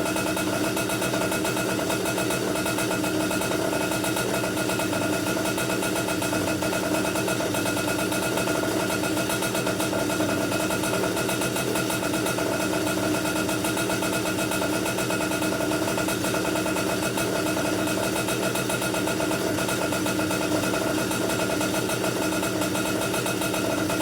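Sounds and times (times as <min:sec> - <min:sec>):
two-stroke kart engine running: 0:00.0 - 0:24.0.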